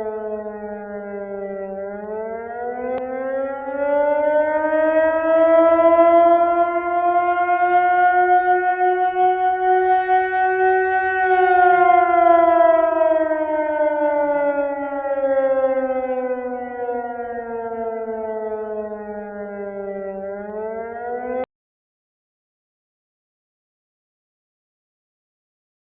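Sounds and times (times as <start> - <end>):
air raid siren wailing: 0.0 - 21.5.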